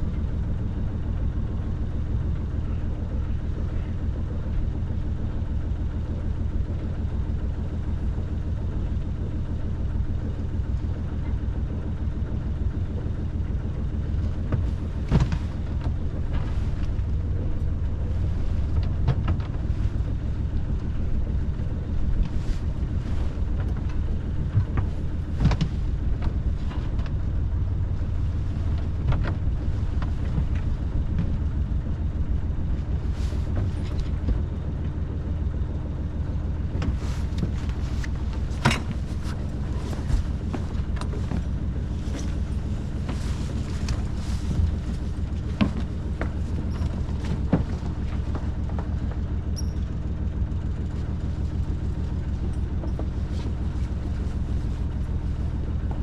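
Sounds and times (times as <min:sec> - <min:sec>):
boat motor droning: 0:00.0 - 0:56.0.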